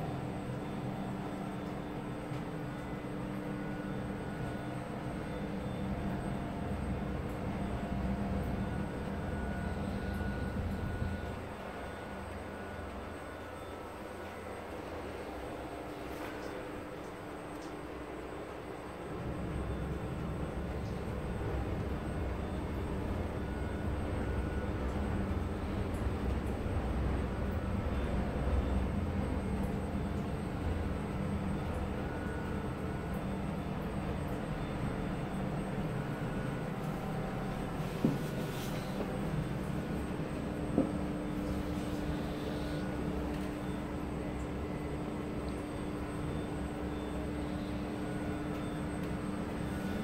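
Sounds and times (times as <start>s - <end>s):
aircraft machinery drone: 0.0s - 50.0s
low mechanical rumble with hum: 0.0s - 50.0s.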